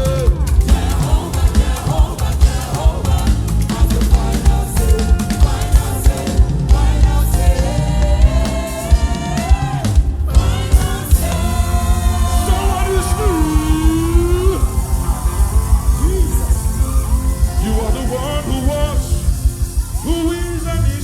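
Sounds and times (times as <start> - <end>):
bass: 0.0 - 21.0
drums: 0.0 - 21.0
person singing long held notes: 0.0 - 21.0.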